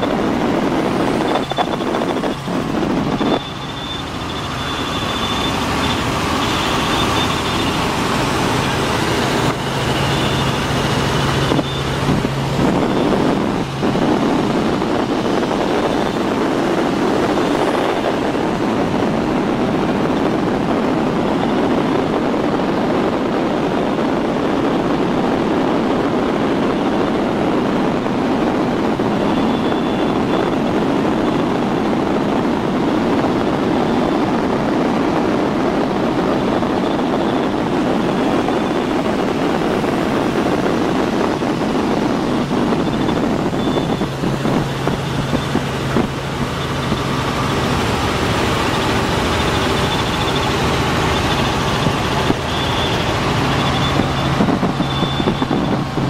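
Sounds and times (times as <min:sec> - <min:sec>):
helicopter cabin rotor and wind noise: 0:00.0 - 0:56.0.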